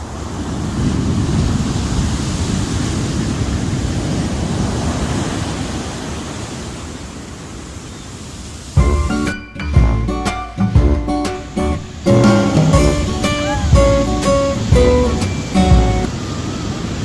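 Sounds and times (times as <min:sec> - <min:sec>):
wave breaking on beach: 0:00.0 - 0:08.8, 0:11.4 - 0:17.0.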